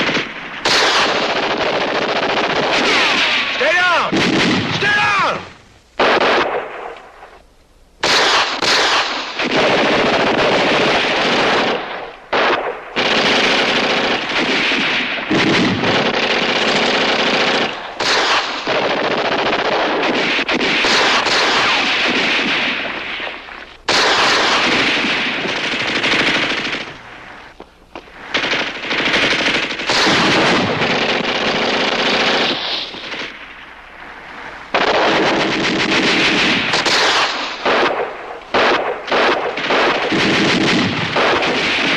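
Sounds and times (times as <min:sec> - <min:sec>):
heavy gunfire: 0:00.0 - 0:06.9, 0:08.0 - 0:27.5, 0:28.2 - 0:33.6, 0:34.7 - 0:41.9.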